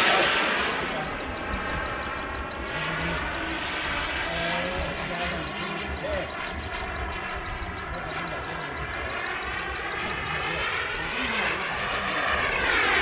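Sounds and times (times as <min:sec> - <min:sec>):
model airplane engine buzzing: 0:00.0 - 0:13.0.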